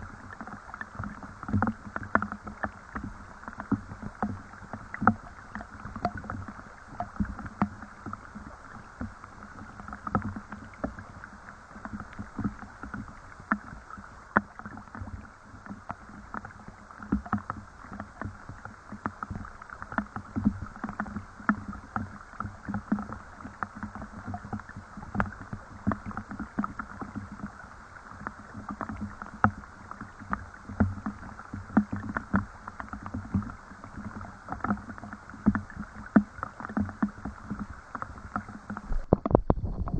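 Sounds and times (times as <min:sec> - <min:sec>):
drips and small splashes: 0:00.0 - 0:39.9.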